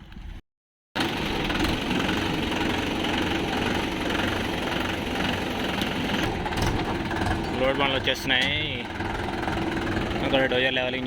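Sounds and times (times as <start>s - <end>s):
diesel engine running: 1.0s - 11.0s.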